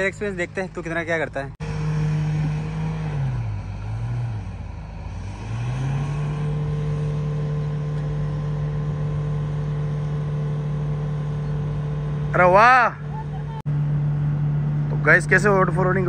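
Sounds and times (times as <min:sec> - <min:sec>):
engine revving under load: 0:01.5 - 0:16.0.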